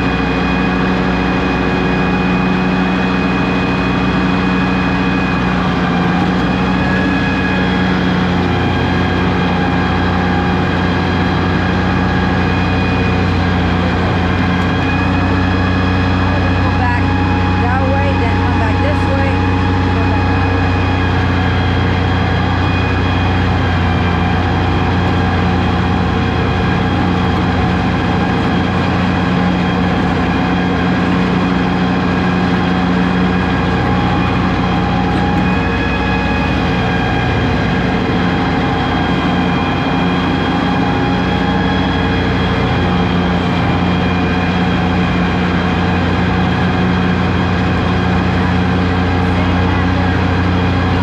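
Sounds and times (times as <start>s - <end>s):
diesel tractor engine droning: 0.0s - 51.0s.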